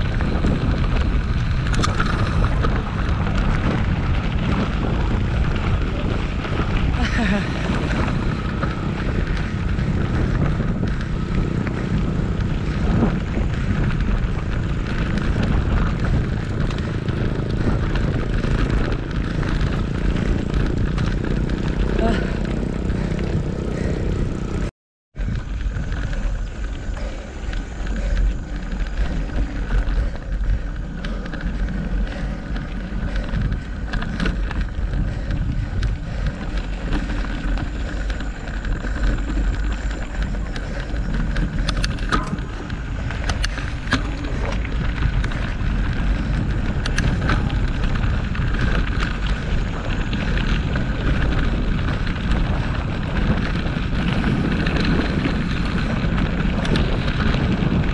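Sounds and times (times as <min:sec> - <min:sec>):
bike rattling: 0:00.0 - 0:57.9
sharp clicks from bike: 0:00.0 - 0:57.9
wind on microphone: 0:00.0 - 0:57.9.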